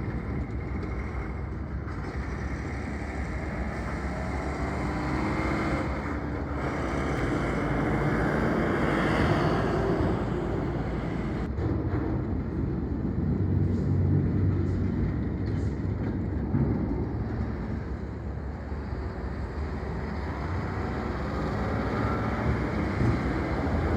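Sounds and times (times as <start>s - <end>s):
truck diesel engines running: 0.0s - 11.6s, 13.5s - 23.9s.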